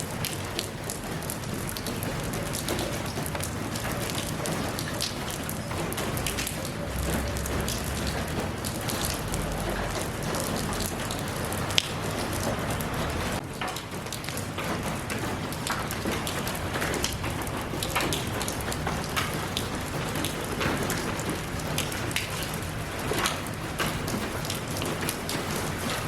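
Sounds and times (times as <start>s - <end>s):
raindrops pattering: 0.0s - 26.0s.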